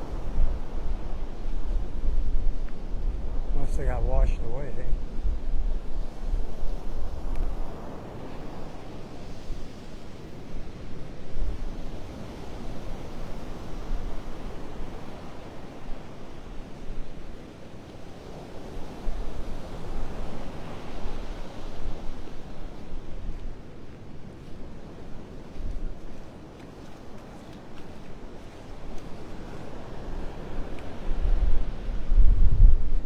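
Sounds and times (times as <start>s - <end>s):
surf washing onto beach: 0.0s - 33.0s
wind buffeting microphone: 0.0s - 33.0s.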